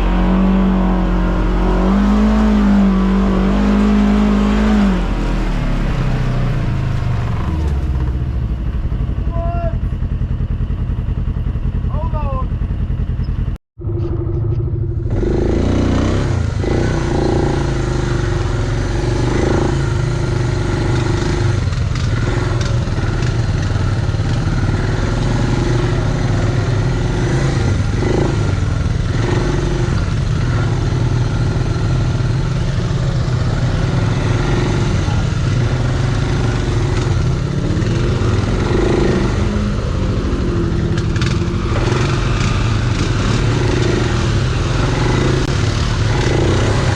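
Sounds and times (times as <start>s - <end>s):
off-road vehicle engine revving: 0.0s - 8.6s, 13.8s - 46.9s.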